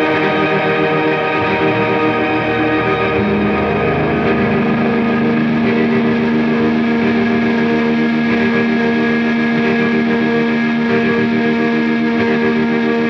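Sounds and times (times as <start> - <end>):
low held note: 0.0 - 10.8
electric guitars sustained chord: 0.0 - 13.0.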